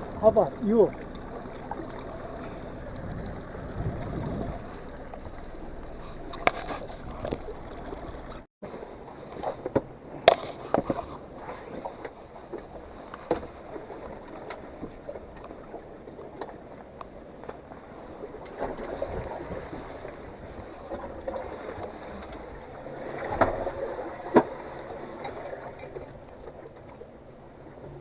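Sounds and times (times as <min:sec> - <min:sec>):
water lapping against boat: 0:00.0 - 0:28.0.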